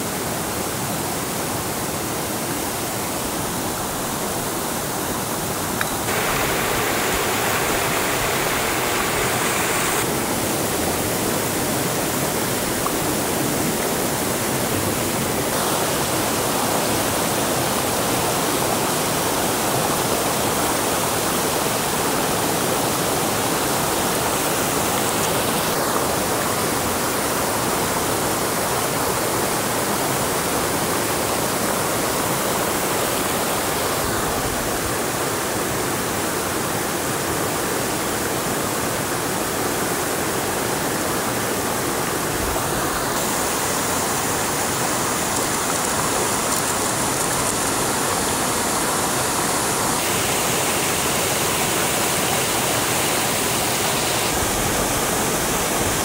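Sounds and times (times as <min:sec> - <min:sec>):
water rushing hiss: 0:00.0 - 0:56.0.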